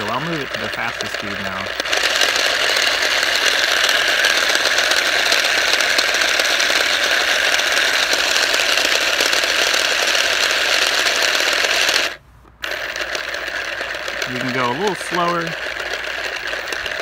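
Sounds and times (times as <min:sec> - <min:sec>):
gearbox whirring grind: 0:00.0 - 0:17.0.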